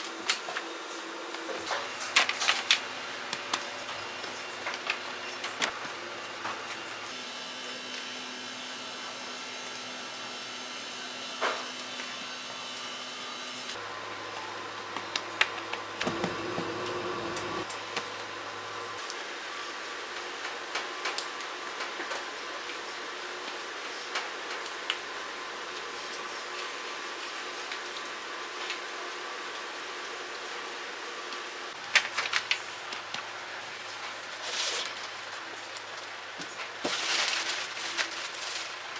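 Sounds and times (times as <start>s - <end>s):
kitchen machinery and fans humming: 0.0s - 38.9s.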